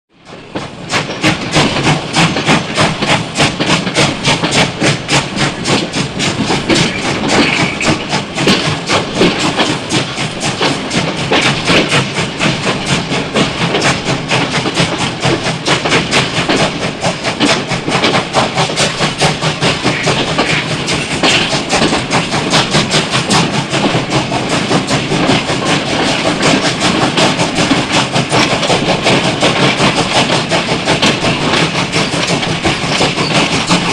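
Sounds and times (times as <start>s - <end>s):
steam locomotive chuffing: 0.2s - 33.9s.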